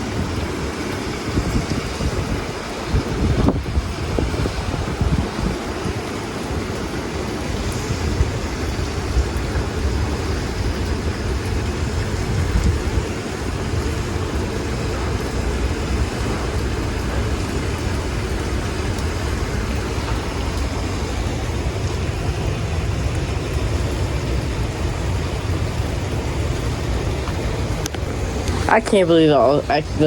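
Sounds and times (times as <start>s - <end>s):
strong wind rumbling on microphone: 0.0s - 30.0s.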